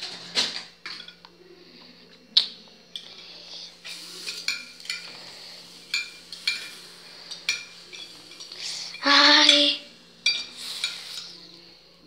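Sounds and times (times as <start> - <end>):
metal utensils clinking on a dish: 0.0 - 1.3, 2.9 - 11.7.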